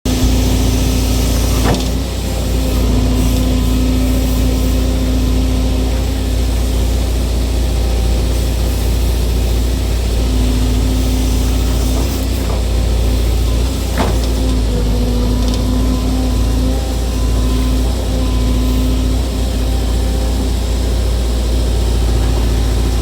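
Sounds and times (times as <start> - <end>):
diesel engine running: 0.0 - 23.0
mid-pitched whine: 0.1 - 23.0.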